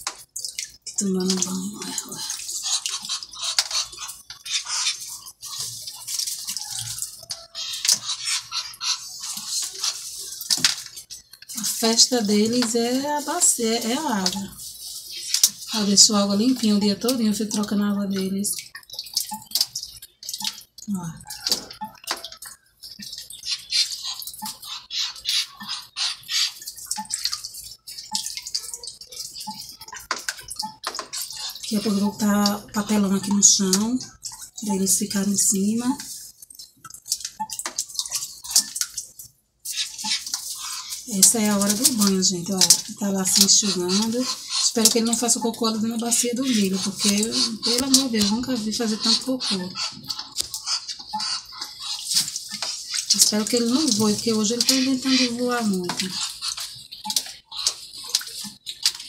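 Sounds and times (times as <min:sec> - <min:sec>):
duck splashing in water: 0:00.0 - 0:36.3, 0:36.9 - 0:59.0.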